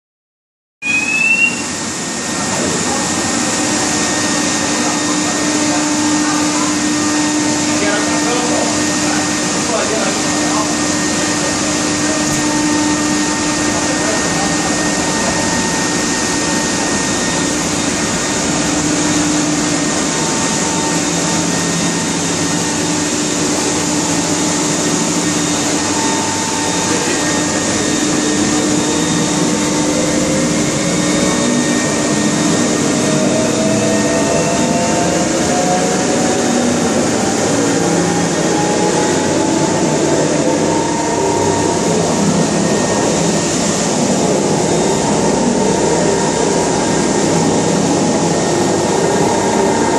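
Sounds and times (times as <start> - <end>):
gear whine: 0.8 - 49.9.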